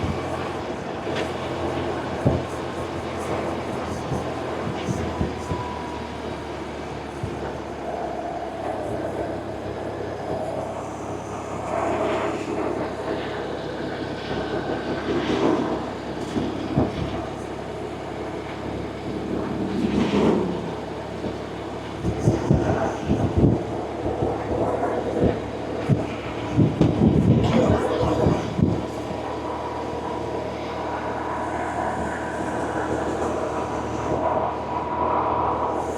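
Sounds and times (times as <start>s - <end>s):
gusty wind rushing: 0.0s - 35.9s.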